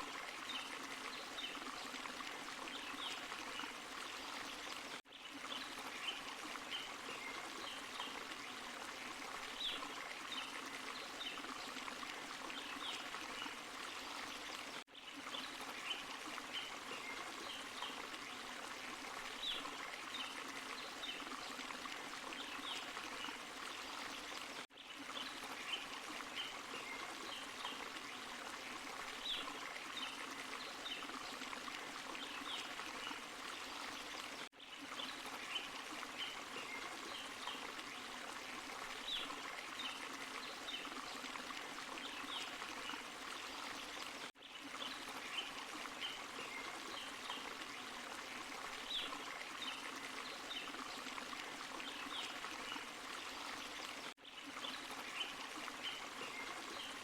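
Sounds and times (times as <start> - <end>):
water running over rocks: 0.0 - 57.0.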